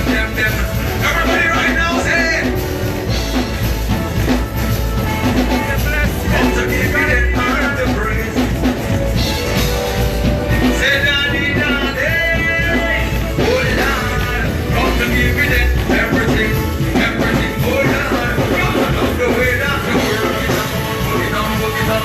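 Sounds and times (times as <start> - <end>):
live band playing praise song: 0.0 - 22.0.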